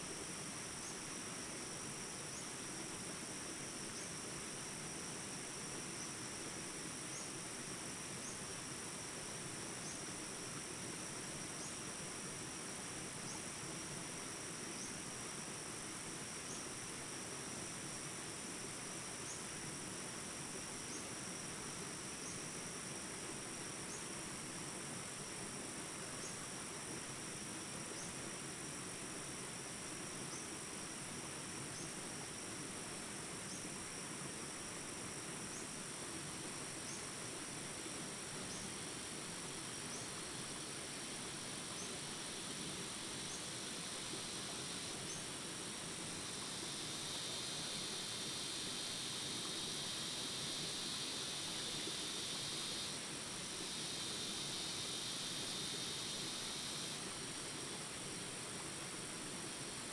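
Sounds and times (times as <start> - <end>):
high insect drone: 0.0 - 59.9
rush of small rapids: 0.0 - 59.9.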